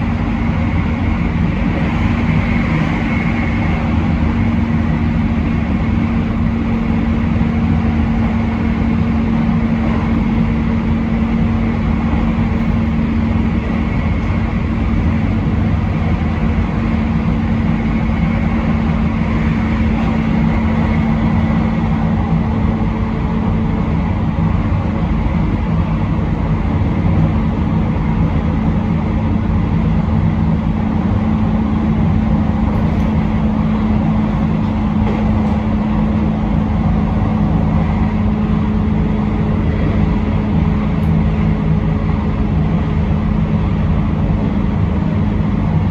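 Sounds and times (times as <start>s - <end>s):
steady hum: 0.0s - 45.9s
train wheels rumbling on rail: 0.0s - 45.9s.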